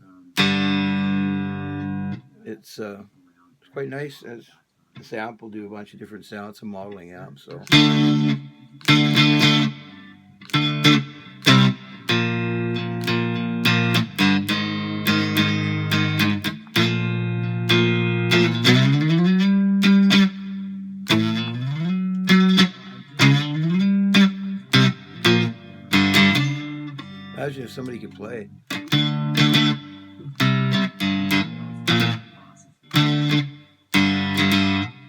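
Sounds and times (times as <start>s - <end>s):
guitar strummed chords: 0.0s - 2.3s, 7.6s - 35.0s
guitar slide notes: 0.4s - 2.2s, 7.6s - 35.0s.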